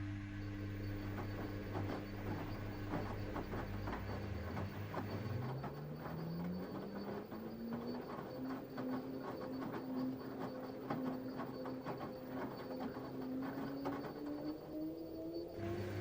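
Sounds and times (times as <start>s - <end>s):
washing machine drum motor: 0.0s - 16.0s.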